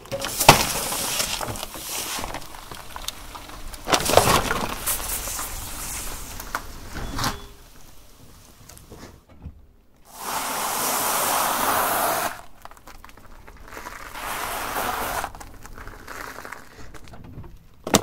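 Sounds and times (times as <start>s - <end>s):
tyre crushing dry noodles: 0.0s - 6.9s, 10.1s - 18.0s.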